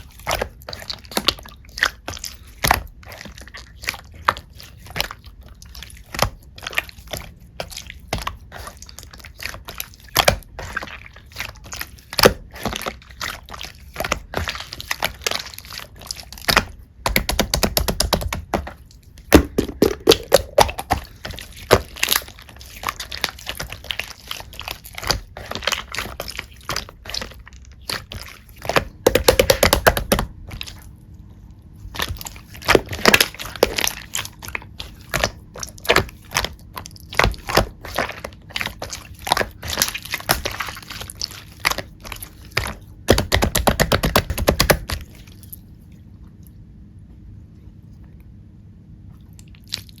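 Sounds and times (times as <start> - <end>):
slime squished by hand: 0.0 - 31.2, 31.8 - 45.7
faint hum: 0.0 - 50.0.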